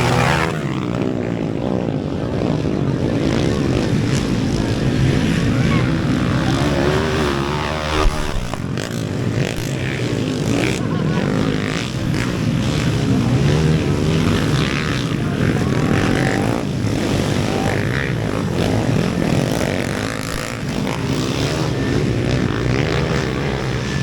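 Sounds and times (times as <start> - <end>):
motorcycle engines racing: 0.0 - 24.0.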